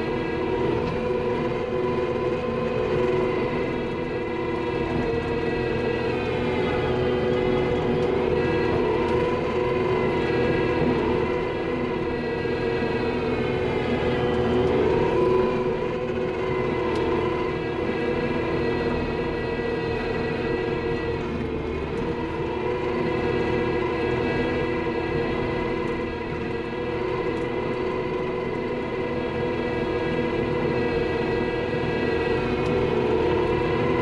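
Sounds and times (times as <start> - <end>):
skid steer engine and hydraulics whining: 0.0 - 34.0.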